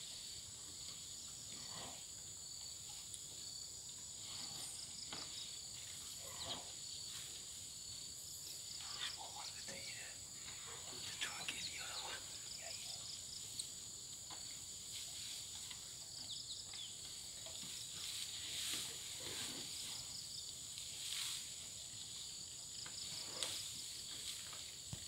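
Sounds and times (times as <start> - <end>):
insects chirping: 0.0 - 25.0
faint rustles: 4.2 - 25.0.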